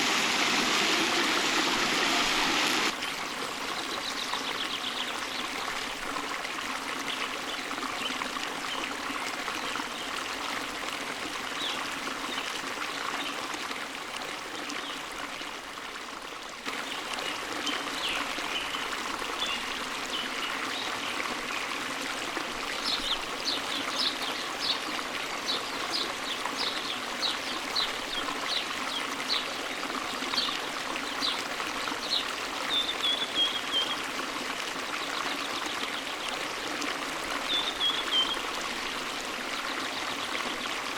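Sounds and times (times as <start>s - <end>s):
forest stream running: 0.0s - 40.9s.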